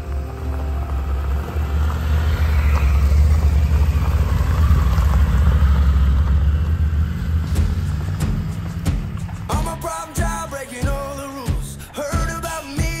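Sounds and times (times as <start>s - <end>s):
motorcycle engines rumbling: 0.0s - 11.8s.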